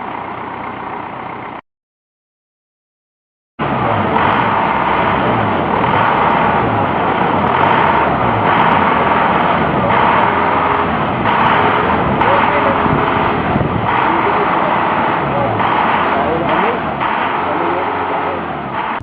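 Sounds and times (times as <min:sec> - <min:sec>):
truck engine running loudly: 0:00.0 - 0:01.6, 0:03.6 - 0:19.0.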